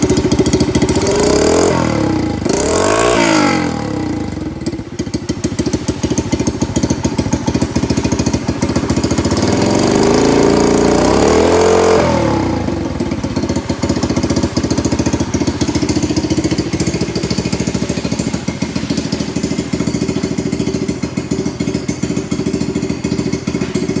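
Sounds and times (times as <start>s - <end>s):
small engine idling and revving: 0.0s - 24.0s.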